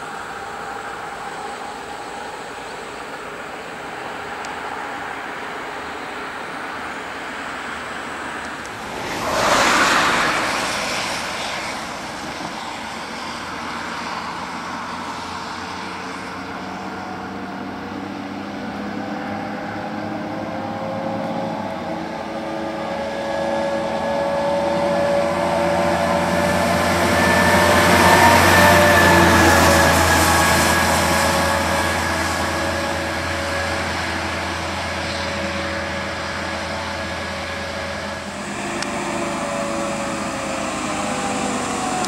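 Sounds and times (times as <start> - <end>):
fire engine two-tone siren: 0.0 - 42.0
truck engine rumbling past: 0.0 - 42.0
vehicle passing close: 0.0 - 42.0.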